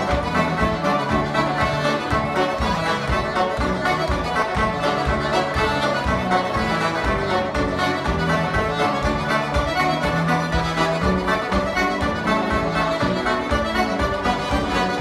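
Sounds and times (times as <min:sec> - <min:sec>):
accordion: 0:00.0 - 0:15.0
banjo: 0:00.0 - 0:15.0.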